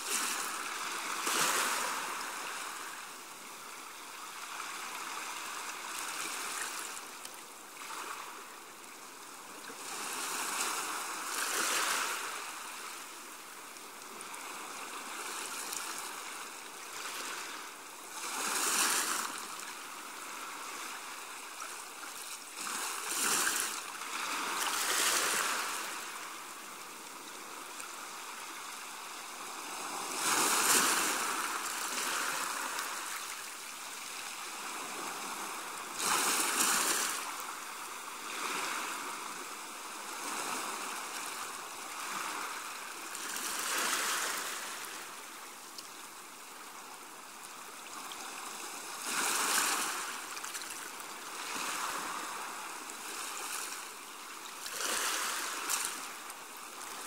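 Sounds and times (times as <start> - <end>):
waves washing onto beach: 0.0 - 57.0.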